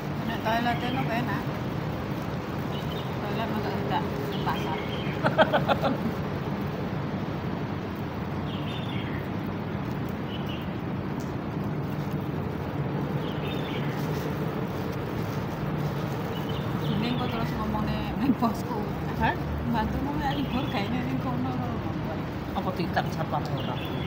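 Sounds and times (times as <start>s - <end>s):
low outdoor background hum: 0.0s - 24.0s.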